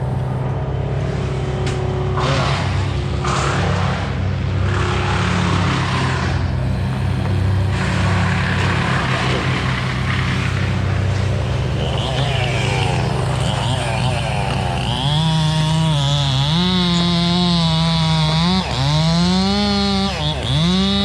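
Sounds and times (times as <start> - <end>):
engine running and revving: 0.0 - 21.0.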